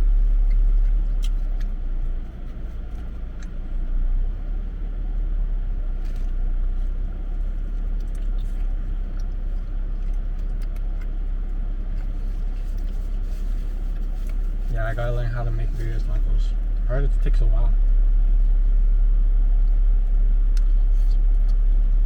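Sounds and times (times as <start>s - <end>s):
vehicle rumble: 0.0s - 22.0s.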